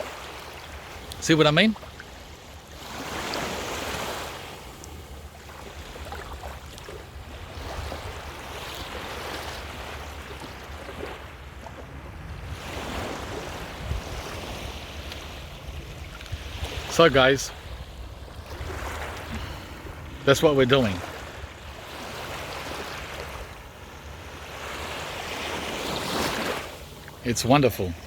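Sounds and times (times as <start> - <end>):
small waves washing onto beach: 0.0 - 28.0.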